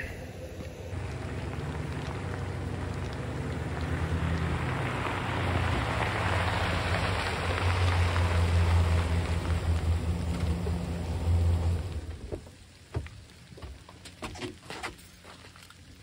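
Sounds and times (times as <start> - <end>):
pickup truck engine running: 0.0 - 12.8
rain falling: 0.0 - 16.0
tyres on wet gravel: 0.0 - 16.0.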